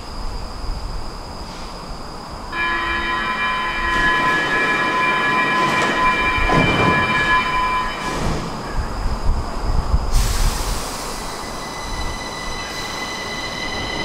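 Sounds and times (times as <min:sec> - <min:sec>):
high-pitched train whine: 0:00.0 - 0:14.0.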